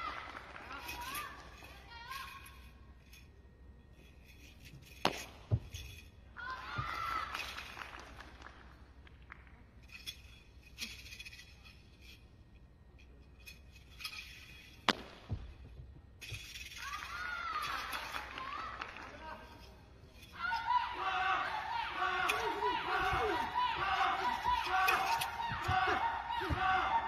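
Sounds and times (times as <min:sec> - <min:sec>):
faint large hall ambience: 0:00.0 - 0:27.0.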